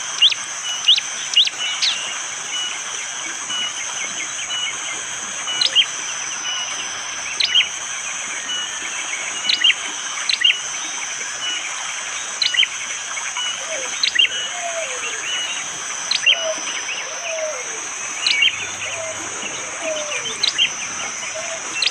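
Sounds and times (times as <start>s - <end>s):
high insect drone: 0.0s - 21.9s.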